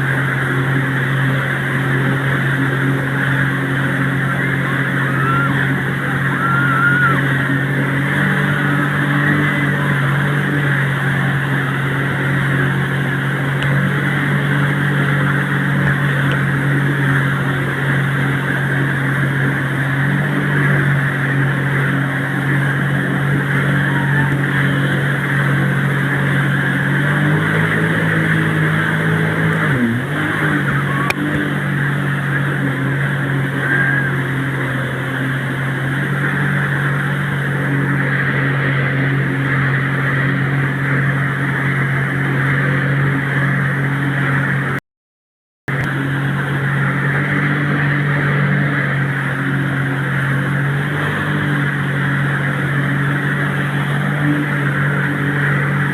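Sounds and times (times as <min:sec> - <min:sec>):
motorboat engine running: 0:00.0 - 0:44.8, 0:45.7 - 0:55.9
water rushing: 0:00.0 - 0:44.8.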